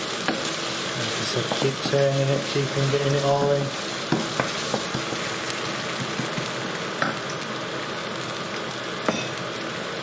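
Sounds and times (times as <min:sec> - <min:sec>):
tomato puree sizzling in a pan: 0:00.0 - 0:10.0.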